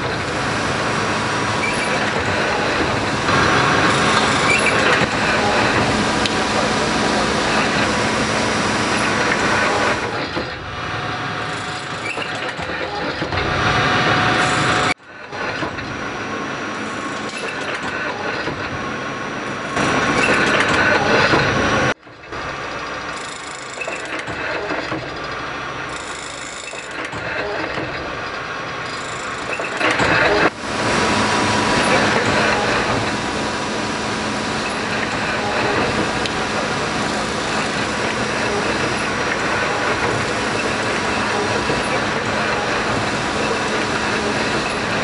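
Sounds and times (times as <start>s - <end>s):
lathe cutting mechanical noise: 0.0s - 45.0s.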